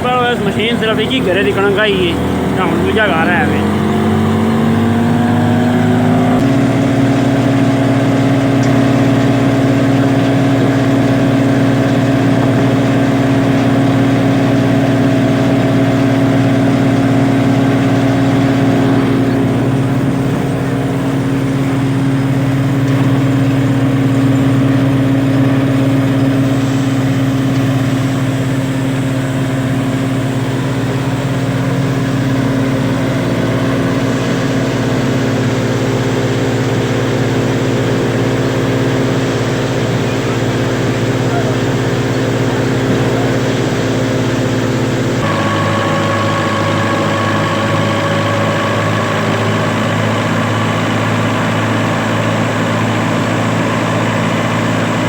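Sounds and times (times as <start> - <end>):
thresher machine running: 0.0 - 55.0.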